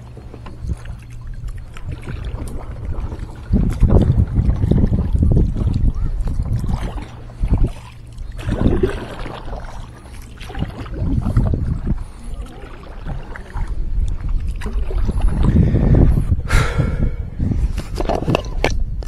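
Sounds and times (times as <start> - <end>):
kayak paddle splashing in water: 0.0 - 15.7
wind rumble on microphone: 0.0 - 19.0.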